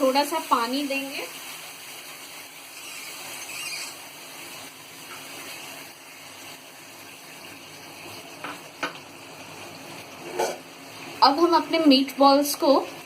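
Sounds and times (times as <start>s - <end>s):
sauce hissing in frying pan: 0.0s - 13.0s.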